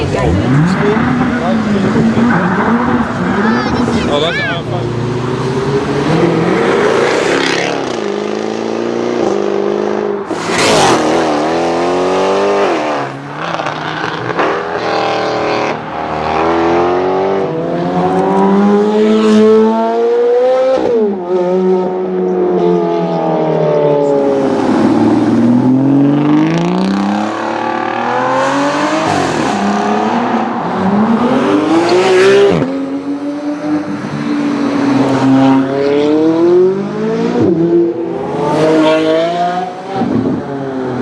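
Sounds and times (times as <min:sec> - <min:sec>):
car engine revving and accelerating: 0:00.0 - 0:41.0.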